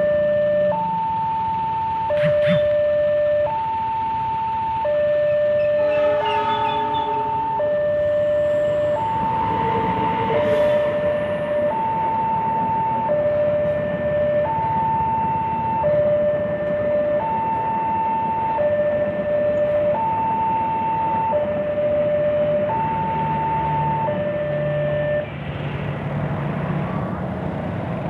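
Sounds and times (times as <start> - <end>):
two-tone hi-lo siren: 0.0 - 25.3.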